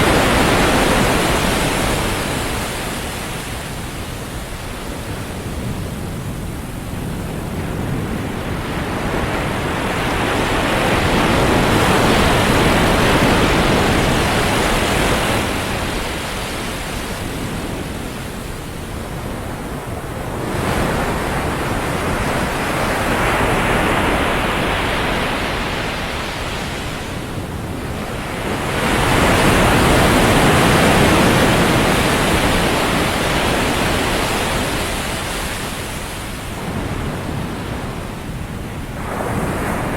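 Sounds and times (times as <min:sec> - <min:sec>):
ocean waves on sandy beach: 0:00.0 - 0:39.9.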